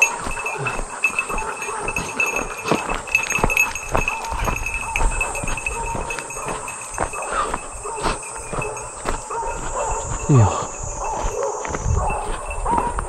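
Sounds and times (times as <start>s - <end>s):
footsteps on gravel and twigs: 0.0s - 13.0s
insects trilling: 0.0s - 13.0s.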